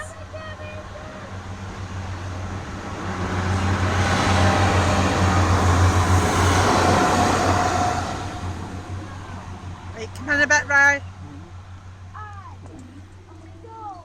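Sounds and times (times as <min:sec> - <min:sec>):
passenger train passing: 0:00.0 - 0:12.4.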